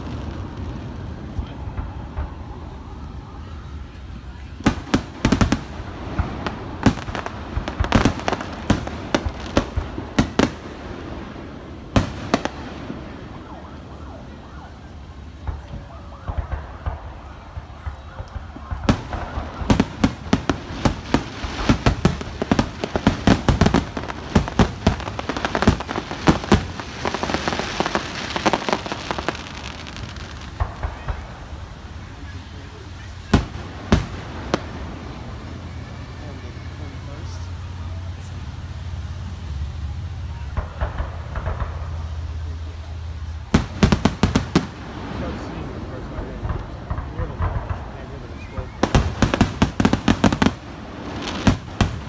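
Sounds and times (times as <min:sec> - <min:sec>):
fireworks bangs: 0:00.0 - 0:38.5, 0:39.9 - 0:52.0.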